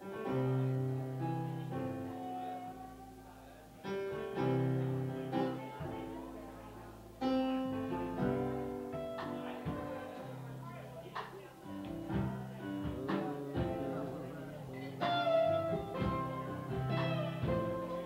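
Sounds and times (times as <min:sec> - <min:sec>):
electric guitar chords: 0:00.0 - 0:10.7, 0:11.6 - 0:18.0
bass: 0:00.0 - 0:18.0
keyboard chords: 0:00.0 - 0:18.0.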